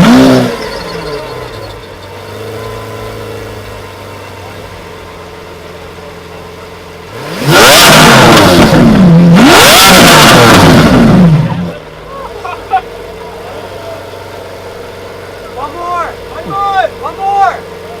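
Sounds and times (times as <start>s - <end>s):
car engine idling: 0.0s - 18.0s
car engine revving: 0.0s - 18.0s.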